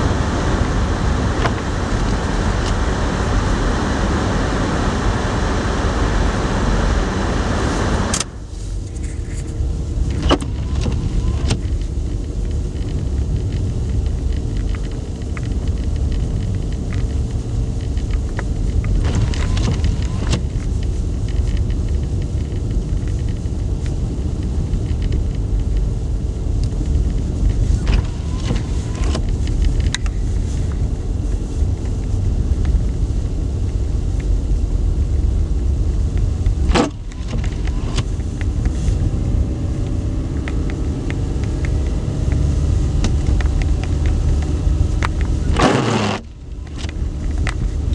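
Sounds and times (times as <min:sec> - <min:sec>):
motor vehicle engine rumble: 0:00.0 - 0:47.9.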